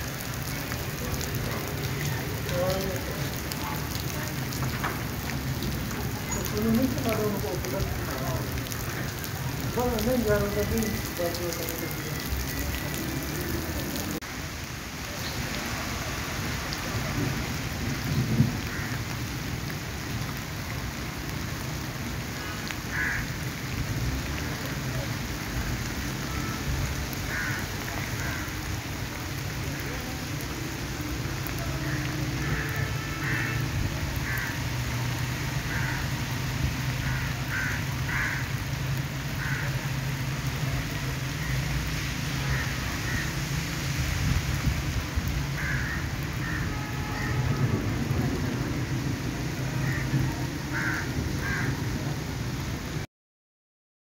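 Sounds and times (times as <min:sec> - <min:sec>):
steady rain falling: 0:00.0 - 0:53.1.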